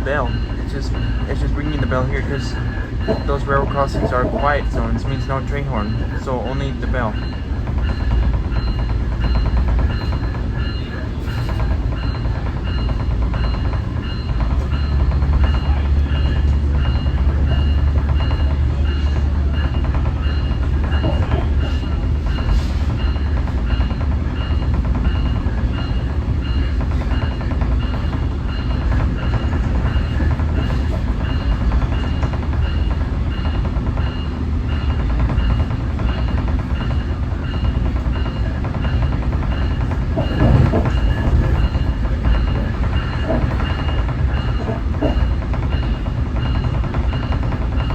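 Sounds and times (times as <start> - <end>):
train bell ringing: 0.0 - 47.9
train rumbling: 0.0 - 47.9.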